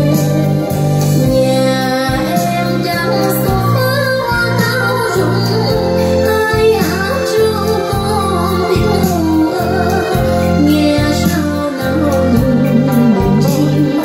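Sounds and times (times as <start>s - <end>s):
sustained bass notes: 0.0s - 14.0s
woman singing: 0.0s - 14.0s.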